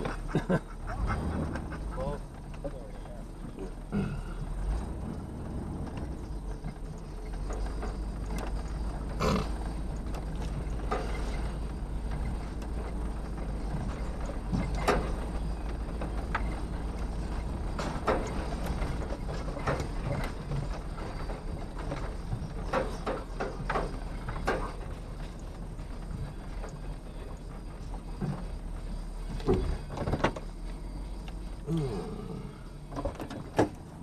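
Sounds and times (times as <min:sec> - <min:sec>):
knocks and rattles: 0:00.0 - 0:31.9
low engine rumble: 0:00.0 - 0:34.0.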